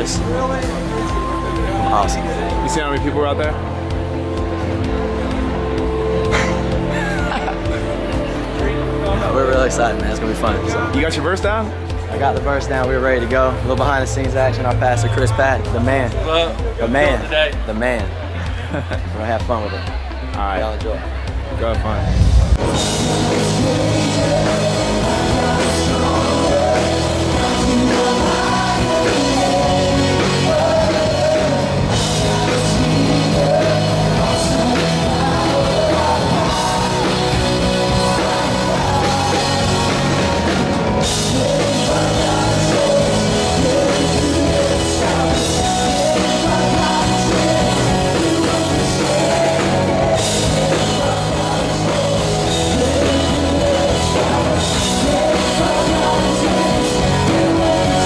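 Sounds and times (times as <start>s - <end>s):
rock music with singing: 0.0s - 58.0s.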